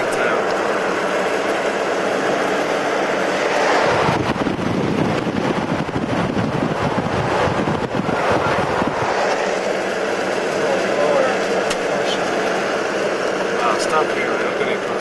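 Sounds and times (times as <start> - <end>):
wind buffeting microphone: 0.0 - 13.6
car tyre and engine noise: 0.0 - 15.0.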